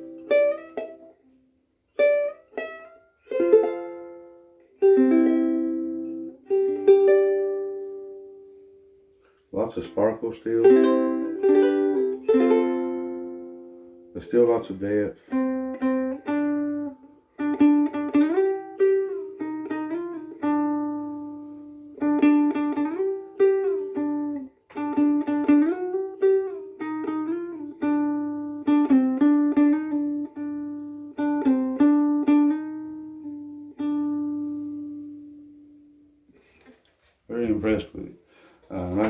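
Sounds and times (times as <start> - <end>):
ukulele melody: 0.0 - 37.8, 38.7 - 39.0.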